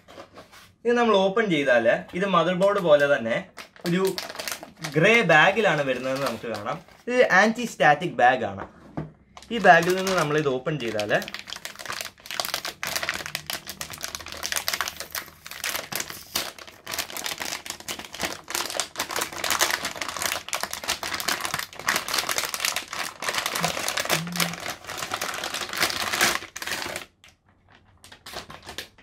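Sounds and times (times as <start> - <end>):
plastic bag crinkling: 2.2 - 7.1, 9.4 - 29.0.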